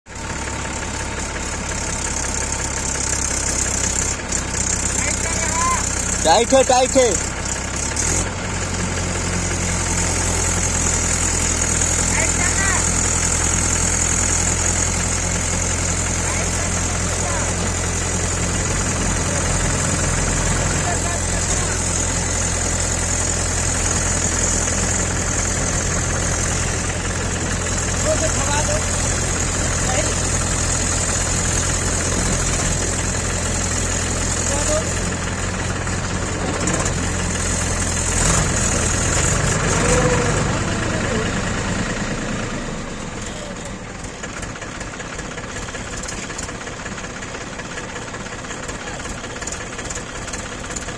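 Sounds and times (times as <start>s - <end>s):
tractor diesel engine running: 0.1s - 50.9s.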